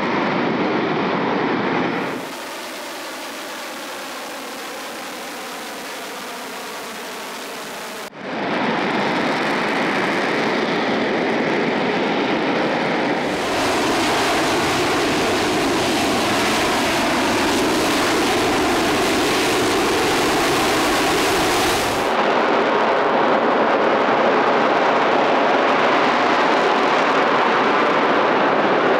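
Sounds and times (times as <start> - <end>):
loud jet engine noise: 0.0 - 28.9.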